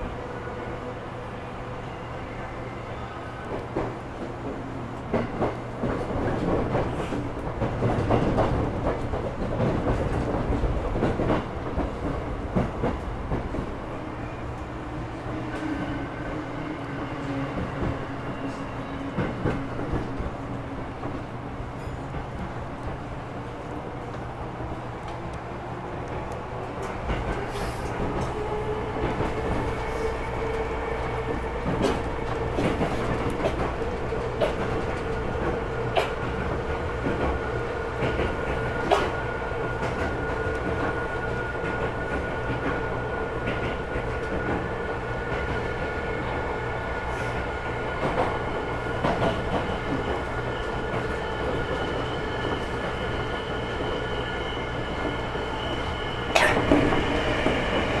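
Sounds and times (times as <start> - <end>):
subway train rumble: 0.0 - 58.0.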